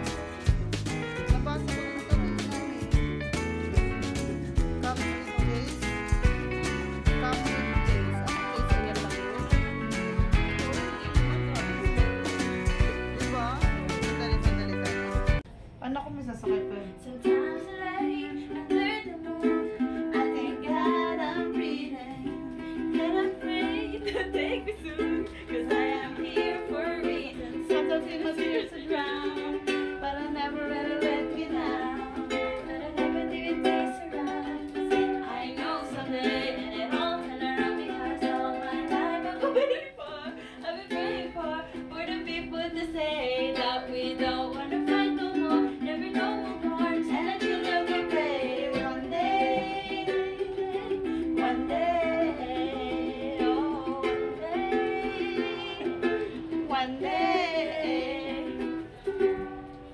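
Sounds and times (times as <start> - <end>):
woman singing: 0.0 - 3.0, 6.6 - 15.4, 16.8 - 59.7
ukulele strumming: 0.0 - 15.5, 16.4 - 59.9.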